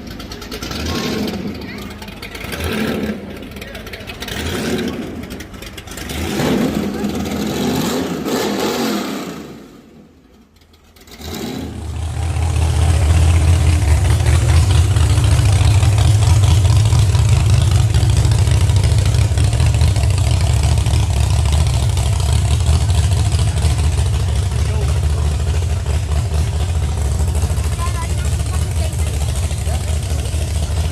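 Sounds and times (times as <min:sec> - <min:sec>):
car engine idling: 0:00.0 - 0:08.3, 0:09.5 - 0:30.9.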